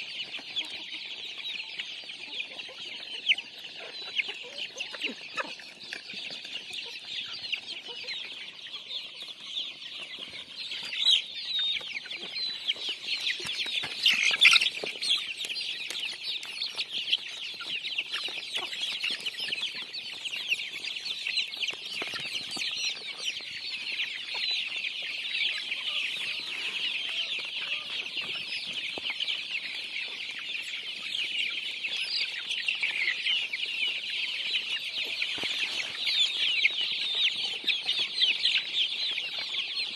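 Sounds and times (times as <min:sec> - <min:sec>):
chicks peeping and clucking: 0:00.0 - 0:39.9.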